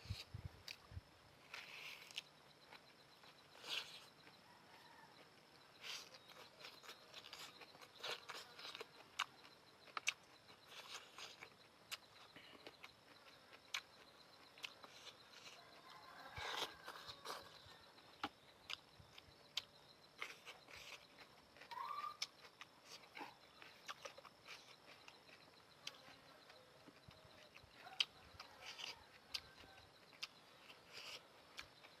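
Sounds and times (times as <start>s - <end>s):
faint high whine: 0.0s - 32.0s.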